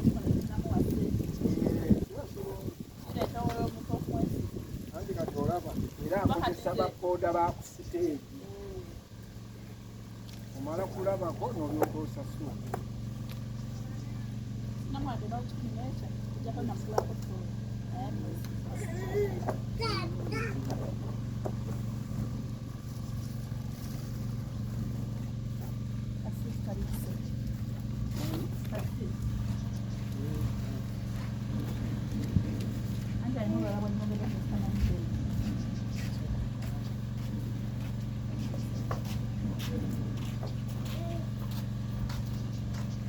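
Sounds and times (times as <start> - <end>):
motorcycle engine idling: 0.0 - 43.0
steady low hum: 0.0 - 43.0.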